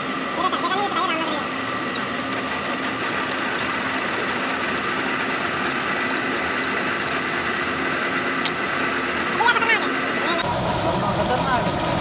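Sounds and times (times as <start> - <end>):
machinery high whine: 0.0 - 12.0
machinery low hum: 0.0 - 12.0.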